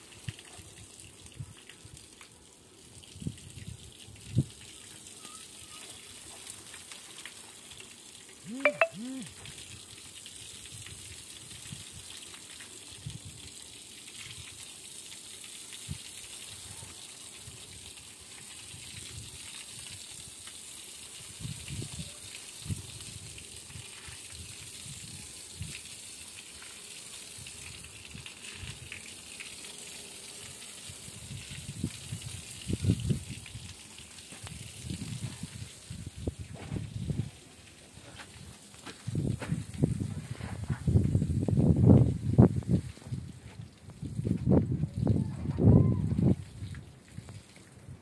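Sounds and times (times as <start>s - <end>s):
hose spraying water on brick: 0.0s - 8.4s, 9.2s - 48.0s.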